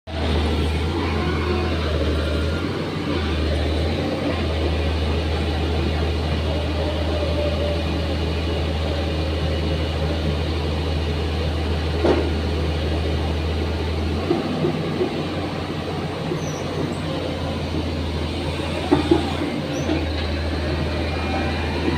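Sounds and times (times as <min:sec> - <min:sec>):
excavator diesel engine rumbling: 0:00.1 - 0:21.9.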